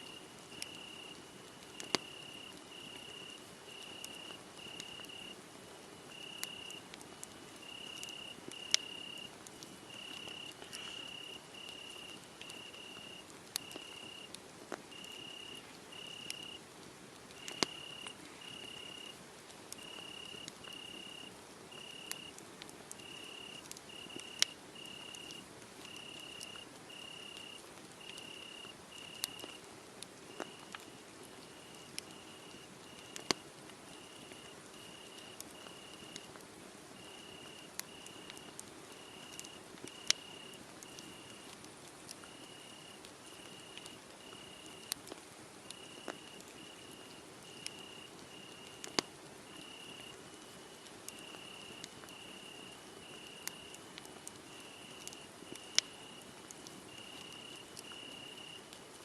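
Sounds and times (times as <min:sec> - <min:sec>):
cricket chirping: 0:00.0 - 0:05.4, 0:06.1 - 0:06.8, 0:07.6 - 0:09.3, 0:09.9 - 0:14.3, 0:14.9 - 0:16.6, 0:17.4 - 0:19.2, 0:19.8 - 0:22.4, 0:23.0 - 0:29.6, 0:31.6 - 0:36.2, 0:37.0 - 0:41.4, 0:42.2 - 0:44.9, 0:45.7 - 0:53.7, 0:54.5 - 0:56.2, 0:56.9 - 0:58.6
wood fire crackling and popping: 0:00.1 - 0:05.4, 0:06.0 - 0:59.0.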